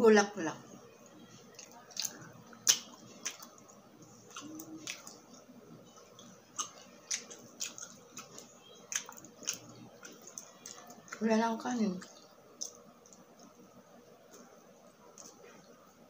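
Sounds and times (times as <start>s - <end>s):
chewing meat: 1.0s - 16.0s.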